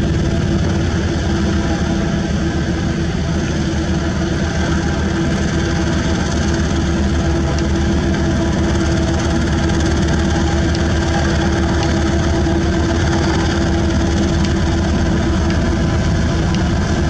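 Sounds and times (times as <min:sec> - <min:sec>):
road roller diesel engine rumbling: 0:00.0 - 0:17.0.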